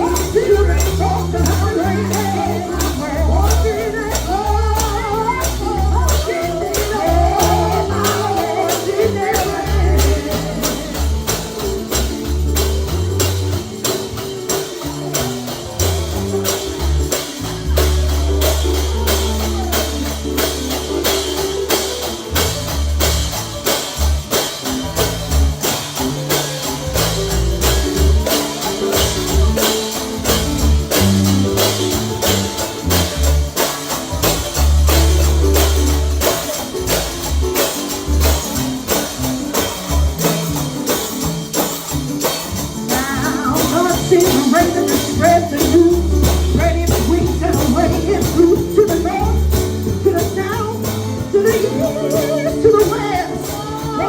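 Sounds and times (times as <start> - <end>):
deep bass line: 0.0 - 41.4, 42.0 - 54.0
tambourine on a fast beat: 0.0 - 54.0.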